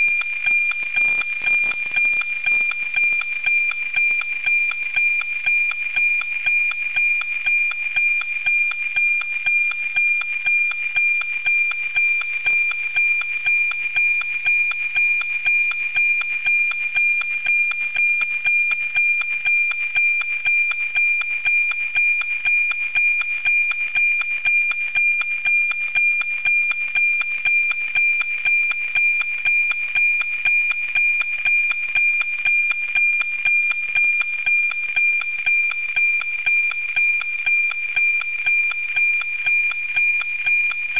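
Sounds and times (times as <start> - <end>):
rhythmic ticking: 0.0 - 40.9.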